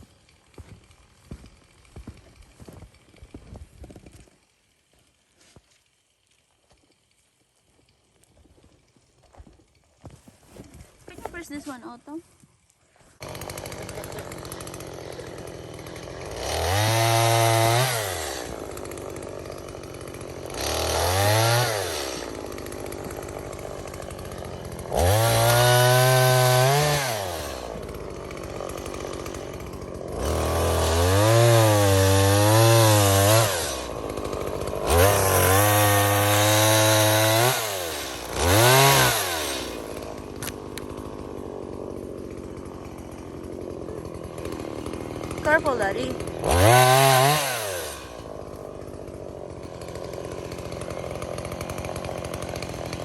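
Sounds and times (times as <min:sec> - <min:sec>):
chainsaw revving into wood: 0:00.0 - 0:12.2, 0:13.2 - 0:53.0.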